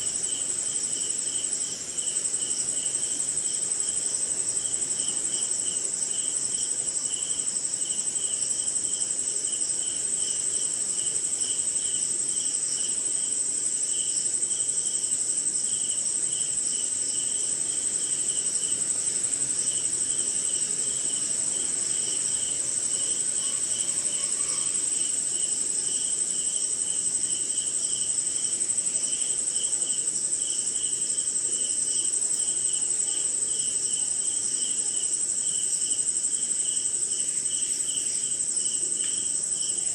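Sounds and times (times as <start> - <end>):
crickets chirping: 0.0 - 39.9
insects trilling: 0.0 - 39.9.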